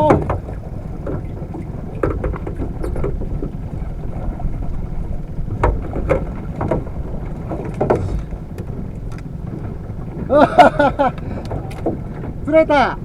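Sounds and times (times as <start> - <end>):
sharp knocks or splashes: 0.0 - 4.8, 5.4 - 12.4
wind and water rumble: 0.0 - 13.0.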